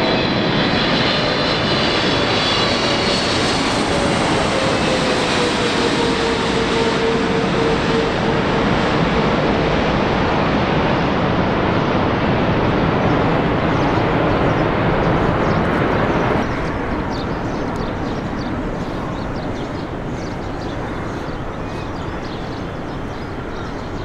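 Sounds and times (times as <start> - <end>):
jet engine rushing roar: 0.0 - 24.0.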